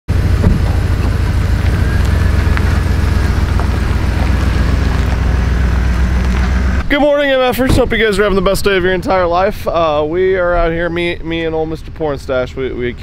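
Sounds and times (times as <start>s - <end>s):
truck engine rumble: 0.0s - 13.0s
gravel crunching under tyres: 0.1s - 13.0s.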